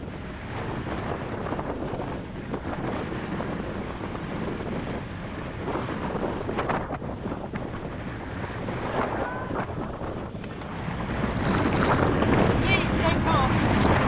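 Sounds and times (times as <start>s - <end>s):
choppy sea rushing: 0.0s - 14.0s
wind buffeting microphone: 0.0s - 14.0s.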